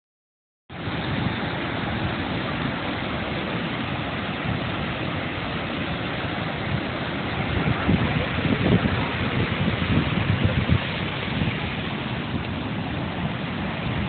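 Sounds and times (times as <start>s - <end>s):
waterfall rushing over rock: 0.7s - 14.0s.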